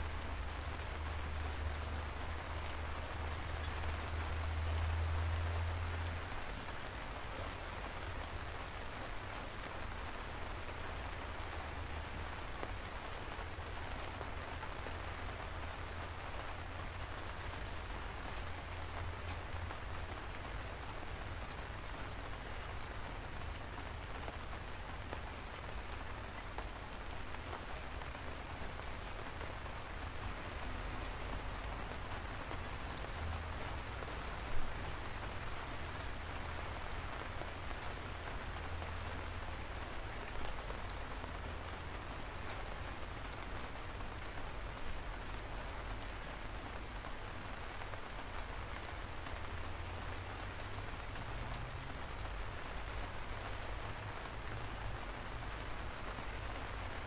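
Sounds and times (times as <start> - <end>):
rain drops ticking: 0.0 - 57.0
steady rain hiss: 0.0 - 57.0.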